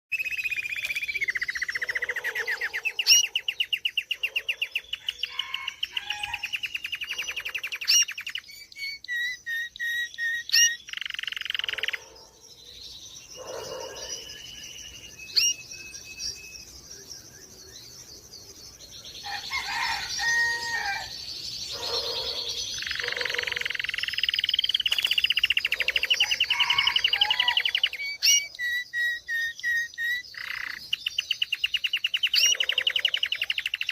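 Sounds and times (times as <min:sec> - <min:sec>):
canary singing trills and chirps: 0:00.1 - 0:33.9.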